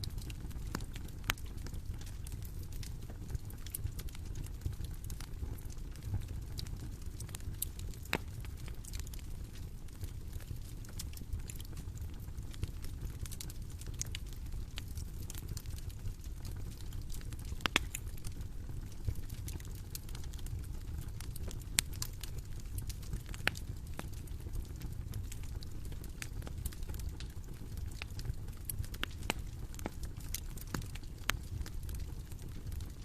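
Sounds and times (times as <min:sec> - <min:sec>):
bonfire crackling: 0:00.0 - 0:33.0
fire popping: 0:00.0 - 0:33.0.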